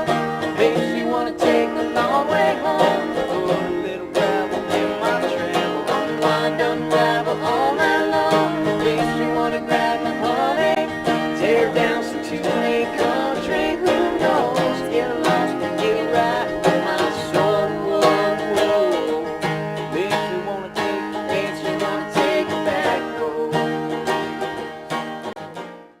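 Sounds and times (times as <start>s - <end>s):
acoustic guitar: 0.0s - 26.0s
banjo: 0.0s - 26.0s.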